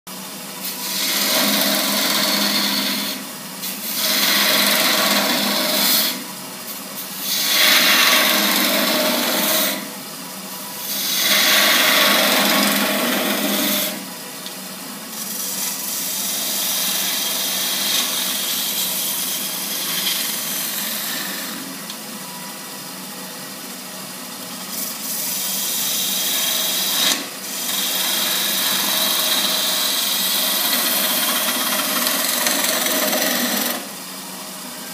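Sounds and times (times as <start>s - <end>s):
turning tool cutting wood: 0.6s - 6.3s, 6.9s - 10.0s, 10.7s - 14.2s, 15.2s - 21.9s, 24.7s - 34.0s
wood lathe spinning: 0.6s - 10.0s, 10.6s - 14.3s, 15.2s - 22.0s, 24.6s - 34.9s.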